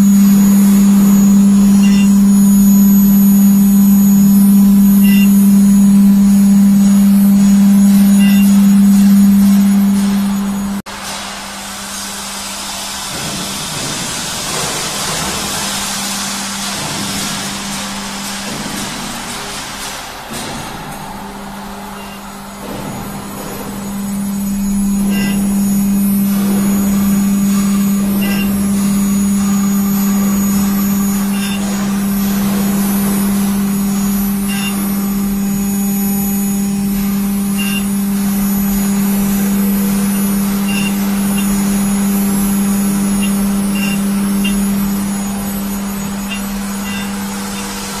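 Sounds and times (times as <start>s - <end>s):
milling machine humming: 0.0s - 48.0s.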